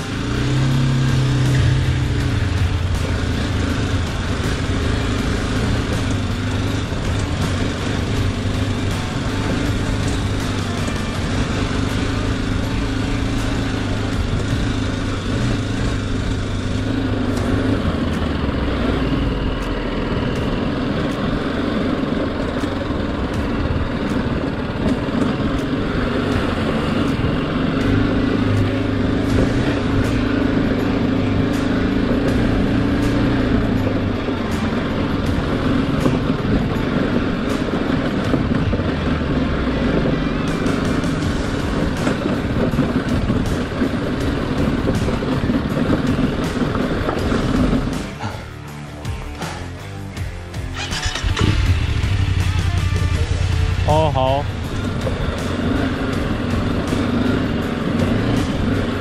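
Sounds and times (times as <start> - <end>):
motorcycle engine on dirt track: 0.0 - 59.0
road and wind noise: 0.0 - 59.0.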